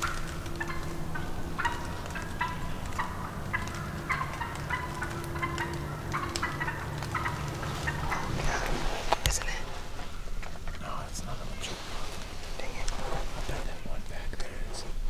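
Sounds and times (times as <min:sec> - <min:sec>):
flock of birds calling: 0:00.0 - 0:14.8
steady low hum: 0:00.0 - 0:15.0.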